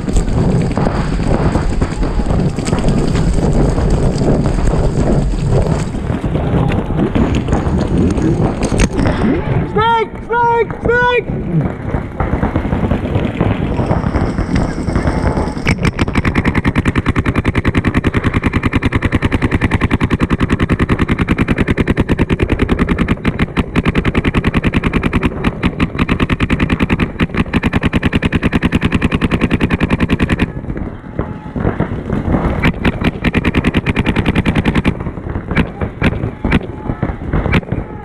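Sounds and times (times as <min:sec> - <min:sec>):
paintball markers firing: 0:00.0 - 0:09.3, 0:11.5 - 0:38.0.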